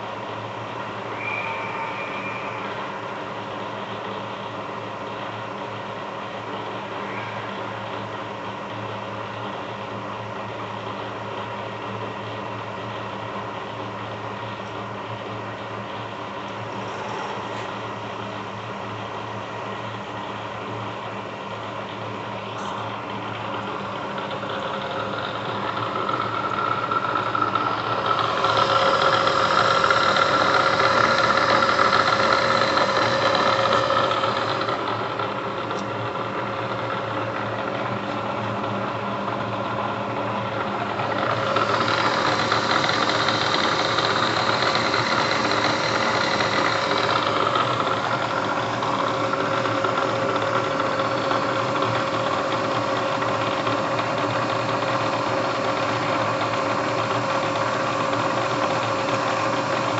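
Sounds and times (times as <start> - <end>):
milling machine hum and whine: 0.0 - 59.9.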